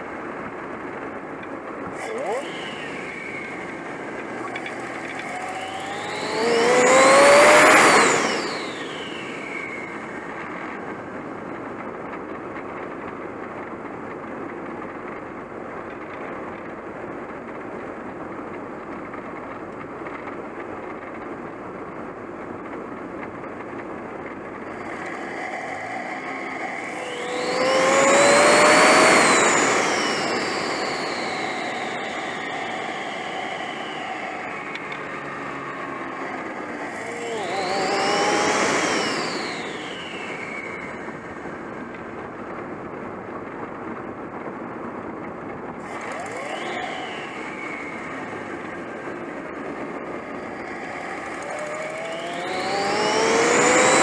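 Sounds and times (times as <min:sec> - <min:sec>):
car engine droning: 0:00.0 - 0:54.0
turbo whine and rushing: 0:00.0 - 0:54.0.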